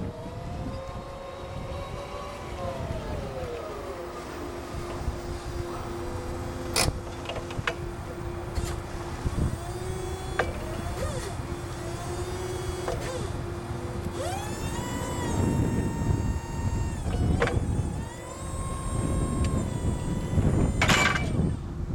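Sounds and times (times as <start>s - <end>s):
hydraulic pump motor humming: 0.0s - 21.9s.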